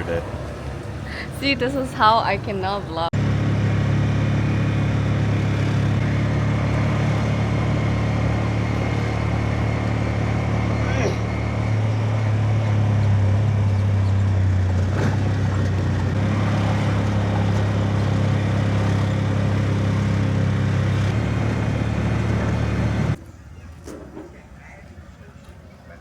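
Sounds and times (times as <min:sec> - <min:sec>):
vehicle engine running: 0:00.0 - 0:23.2
road noise: 0:00.0 - 0:26.0.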